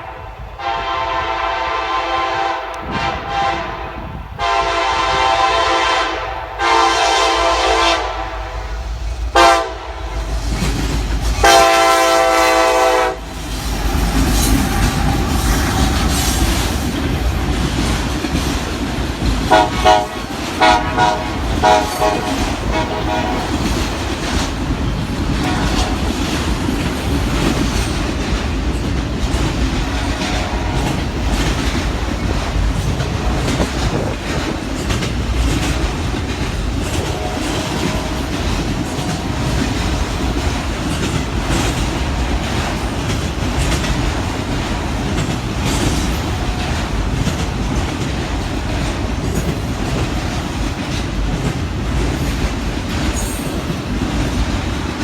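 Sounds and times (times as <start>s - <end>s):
train cars rumbling past: 0.0s - 55.0s.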